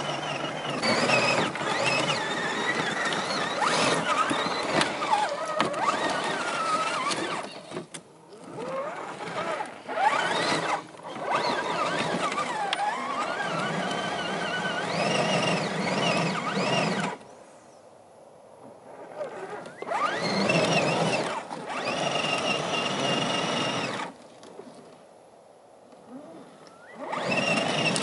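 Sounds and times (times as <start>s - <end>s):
toy car electric motor whining: 0.0s - 17.2s, 18.9s - 24.2s, 26.1s - 28.0s.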